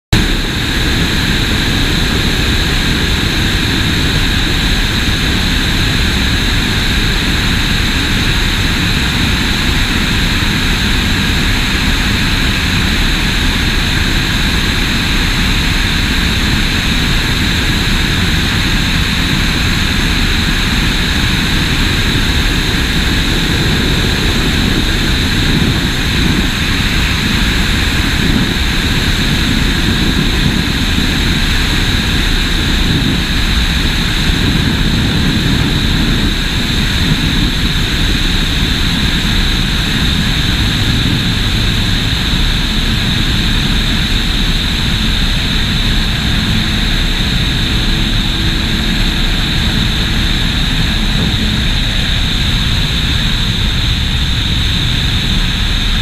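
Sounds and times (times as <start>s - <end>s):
plane engine and propeller drone: 0.1s - 56.0s
wind rush on microphone: 0.1s - 56.0s.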